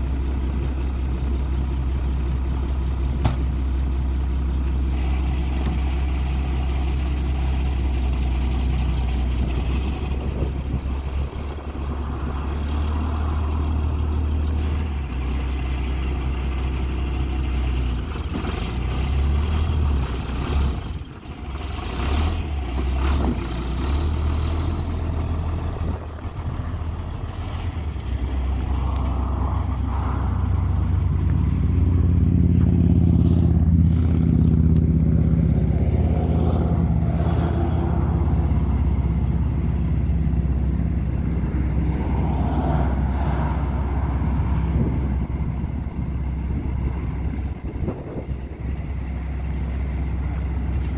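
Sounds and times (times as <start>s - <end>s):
truck engine running: 0.0s - 50.9s.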